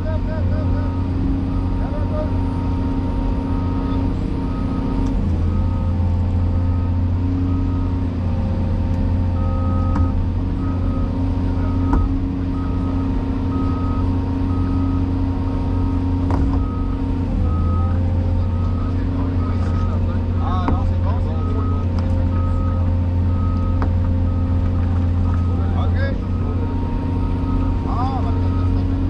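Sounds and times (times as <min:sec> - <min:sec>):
back-up alarm beeping: 0:00.0 - 0:08.0, 0:09.3 - 0:29.0
excavator diesel engine running: 0:00.0 - 0:29.0.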